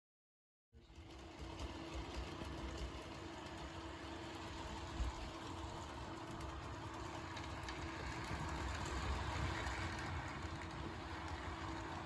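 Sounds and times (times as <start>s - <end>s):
model train rolling on track: 0.8s - 12.0s.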